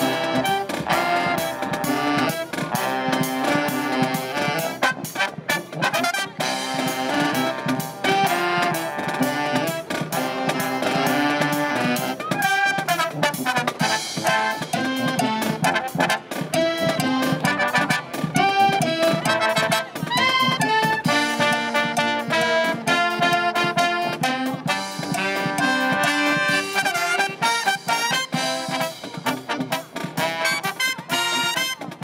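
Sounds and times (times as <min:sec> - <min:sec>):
marching band playing: 0:00.0 - 0:32.0.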